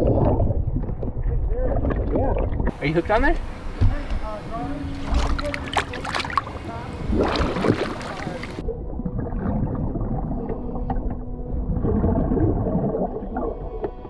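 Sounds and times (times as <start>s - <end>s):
faint steady hum: 0.0s - 14.0s
muffled underwater rushing water: 0.0s - 14.0s.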